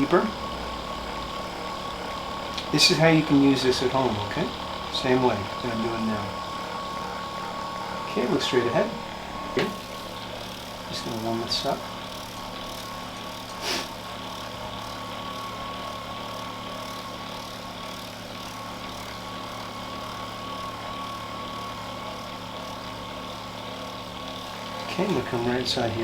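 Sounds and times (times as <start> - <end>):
electric massager humming: 0.0 - 26.0.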